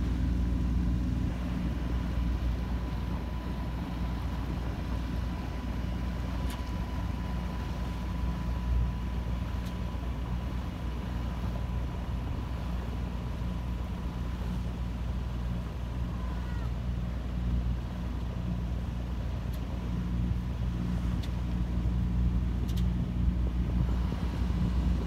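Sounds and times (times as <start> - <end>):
boat engine droning: 0.0 - 25.0
faint steady whine: 0.0 - 25.0.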